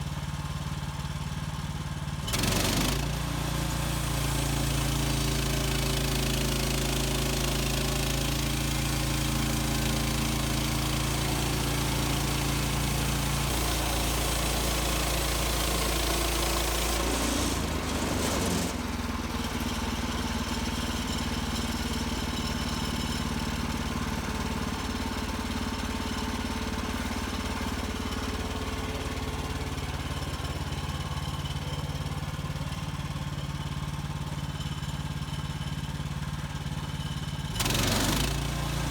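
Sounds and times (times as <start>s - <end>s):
gasoline engine running: 0.0s - 38.9s.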